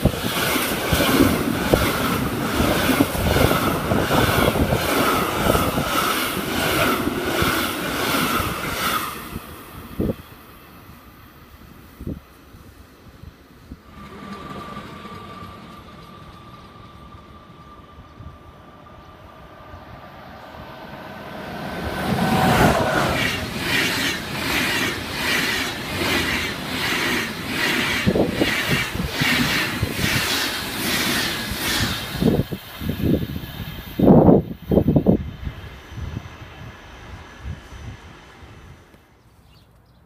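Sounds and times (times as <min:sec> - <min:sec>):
rhythmic clatter of train wheels: 0:00.0 - 0:18.9, 0:21.3 - 0:37.7
passenger train passing at speed: 0:00.0 - 0:39.4.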